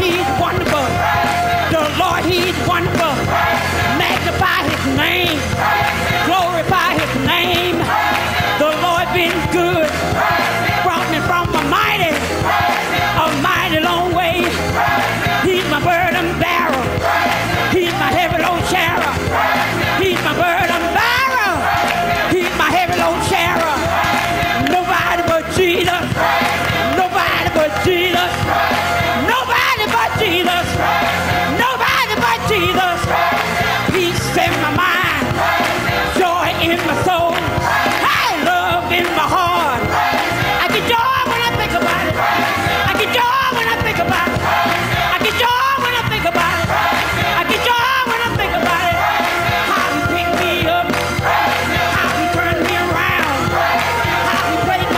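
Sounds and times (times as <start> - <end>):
band with bass and beat: 0.0 - 54.9
choir singing: 0.0 - 54.9
congregation clapping: 0.0 - 54.9.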